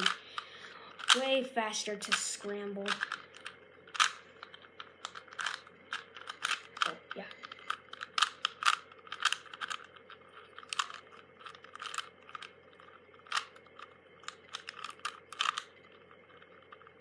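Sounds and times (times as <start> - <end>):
puzzle cube plastic clicks: 0.0 - 17.0.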